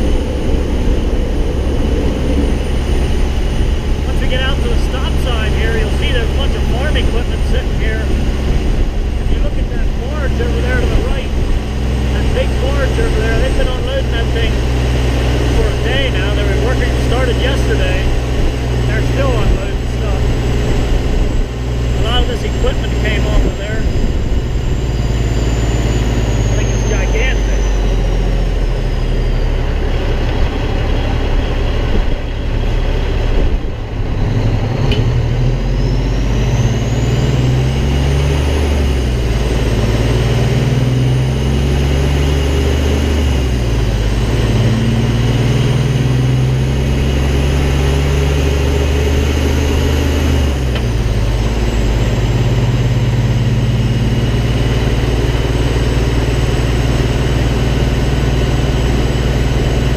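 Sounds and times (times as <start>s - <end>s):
high whine: 0.0s - 59.9s
truck diesel engine accelerating: 0.0s - 59.9s.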